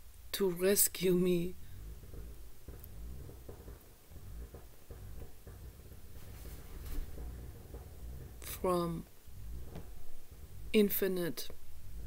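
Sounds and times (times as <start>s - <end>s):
low rumble: 0.9s - 12.0s
soft rustles and taps: 1.0s - 12.0s.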